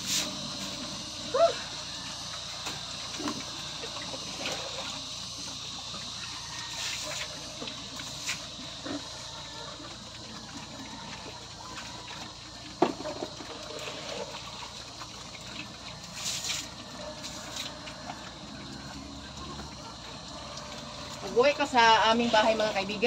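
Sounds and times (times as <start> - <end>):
pigs slurping and chomping: 0.0 - 23.0.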